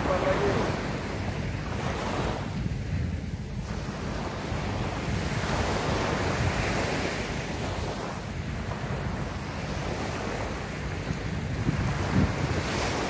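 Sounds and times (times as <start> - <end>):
surf washing up a sandy beach: 0.0 - 13.0
wind buffeting microphone: 0.0 - 13.0.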